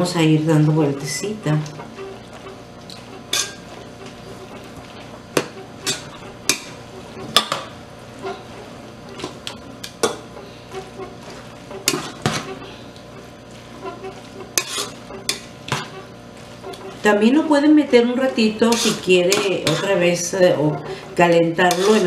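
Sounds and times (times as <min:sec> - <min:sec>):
soft stirring: 0:00.0 - 0:22.0.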